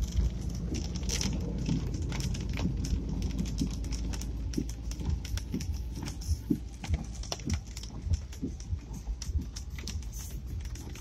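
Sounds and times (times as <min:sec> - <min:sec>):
car engine and tyres rumbling: 0:00.0 - 0:11.0
raindrops ticking on car roof: 0:00.0 - 0:11.0.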